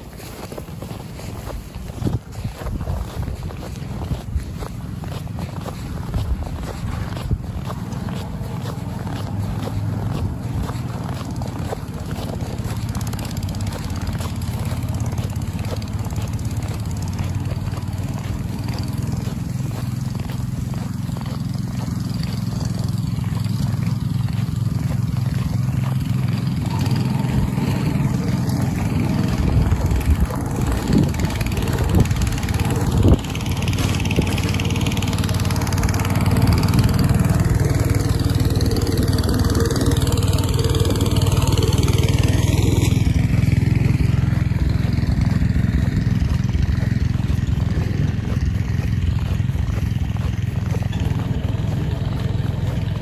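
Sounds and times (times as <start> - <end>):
snowblower engine running: 0.0 - 53.0
wind rumbling on microphone: 0.0 - 53.0.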